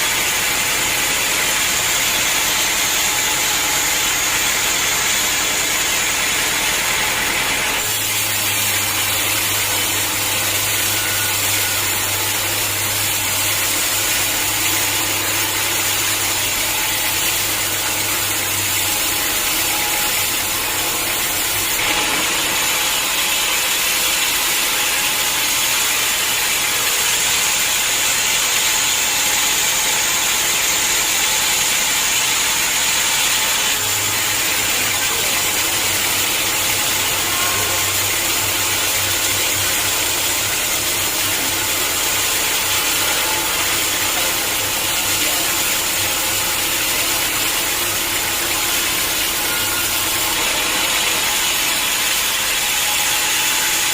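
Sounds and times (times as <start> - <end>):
saw cutting through log: 0.0 - 53.9.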